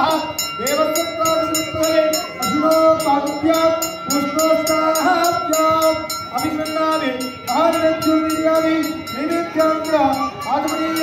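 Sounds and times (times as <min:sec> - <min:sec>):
high ringing strikes: 0:00.0 - 0:11.0
man chanting: 0:00.0 - 0:11.0.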